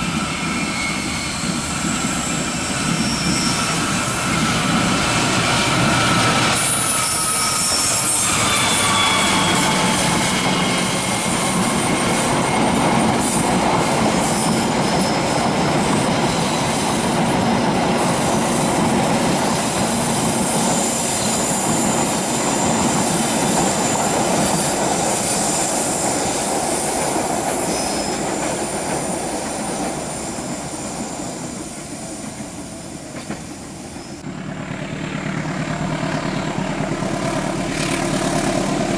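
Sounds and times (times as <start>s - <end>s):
high wheel squeals: 0.0s - 33.1s
train wheels clacking on rails: 0.0s - 38.9s.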